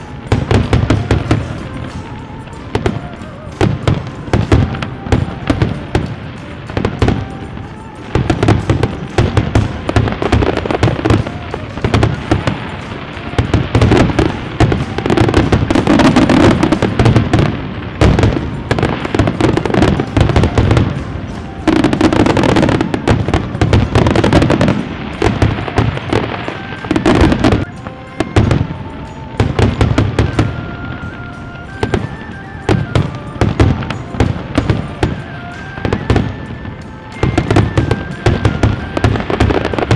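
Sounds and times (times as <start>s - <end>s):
fireworks banging and crackling: 0.0s - 39.9s
music: 0.0s - 39.9s.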